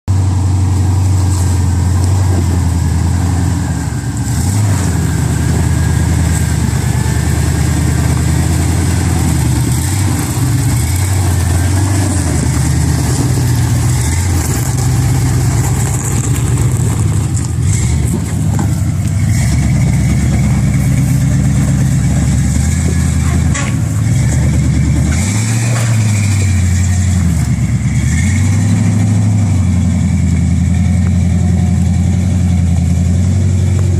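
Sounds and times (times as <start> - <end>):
off-road vehicle engine revving: 0.1 - 33.9.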